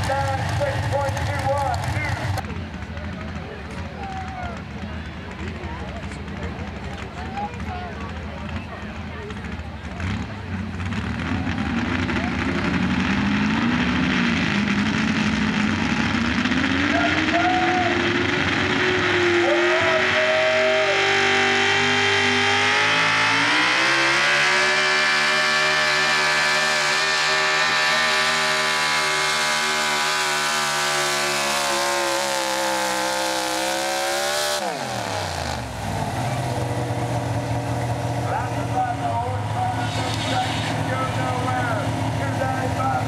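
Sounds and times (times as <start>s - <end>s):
truck engine at full throttle: 0.0s - 43.0s.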